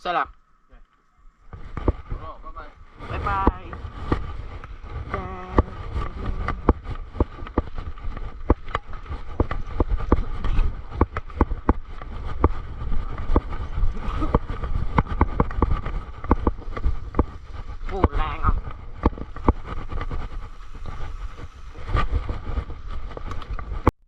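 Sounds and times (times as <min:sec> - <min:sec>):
wind on microphone: 0:01.3 - 0:23.9
tyres rumbling on trail: 0:01.5 - 0:23.9.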